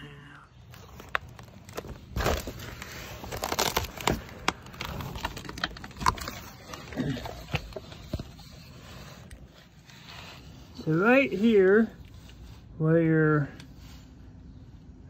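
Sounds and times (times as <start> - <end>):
rustling and crinkling: 0.5 - 12.9.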